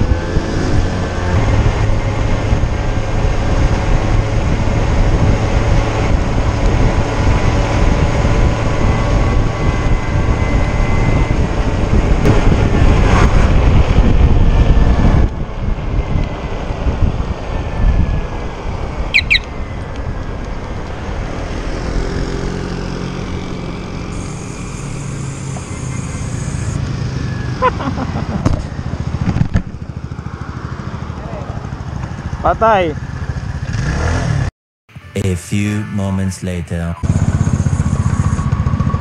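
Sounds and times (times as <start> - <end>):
wind rushing over microphone: 0.0 - 34.5
motorcycle engine hum: 0.0 - 39.0.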